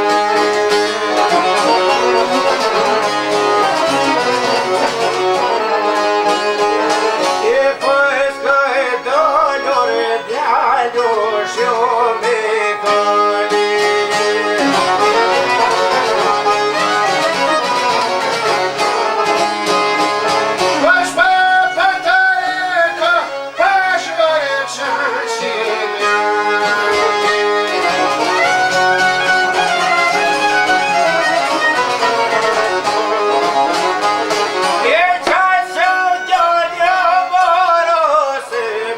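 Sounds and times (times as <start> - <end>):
fiddle-like melody: 0.0 - 38.9
plucked strings: 0.0 - 38.9.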